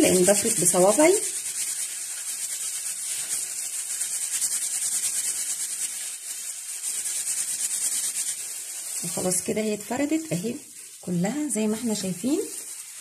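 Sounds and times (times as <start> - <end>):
gloved hands rubbing paste: 0.0 - 13.0.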